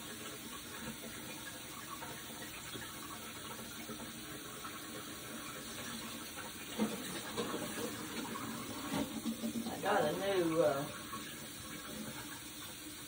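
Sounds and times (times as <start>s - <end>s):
faucet running into a pan: 0.0s - 13.0s.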